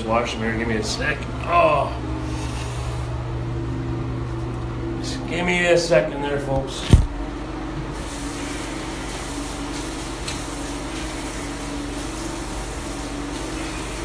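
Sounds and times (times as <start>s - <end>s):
exhaust fan running: 0.0s - 14.0s.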